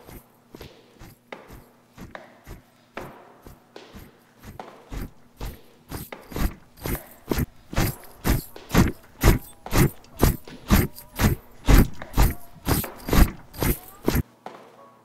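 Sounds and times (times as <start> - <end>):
footsteps on concrete floor: 0.0 - 14.2.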